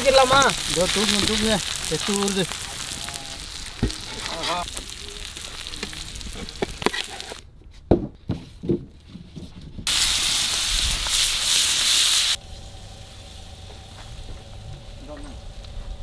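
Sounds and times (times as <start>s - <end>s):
fish sizzling in a pan: 0.0s - 7.4s, 9.9s - 16.0s.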